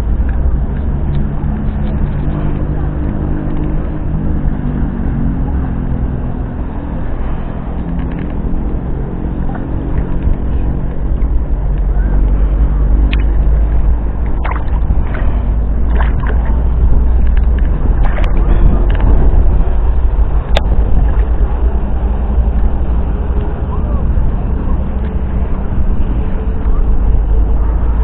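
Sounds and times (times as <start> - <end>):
engine hum: 0.0 - 28.0
wind buffeting microphone: 0.0 - 28.0.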